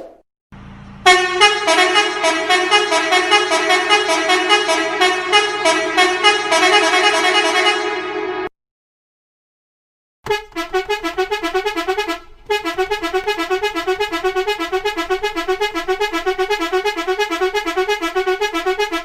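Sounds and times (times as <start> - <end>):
musical car horn melody: 0.6 - 8.5, 10.2 - 19.0.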